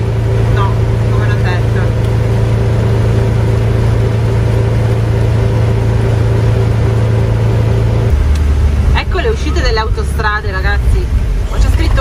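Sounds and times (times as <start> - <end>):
diesel engine droning while driving: 0.0 - 12.0.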